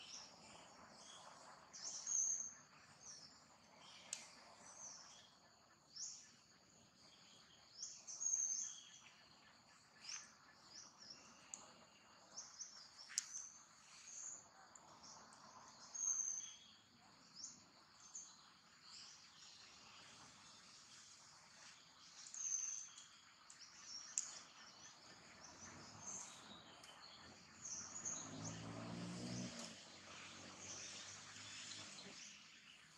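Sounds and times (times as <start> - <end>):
birds chirping: 0.0 - 32.9
faint outdoor background: 0.0 - 32.9.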